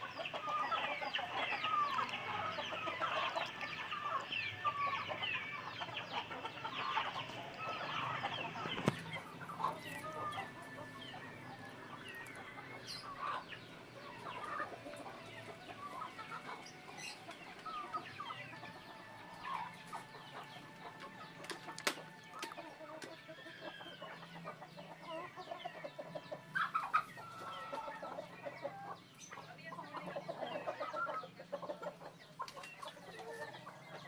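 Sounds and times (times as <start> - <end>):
bird-like calls: 0.0 - 34.0.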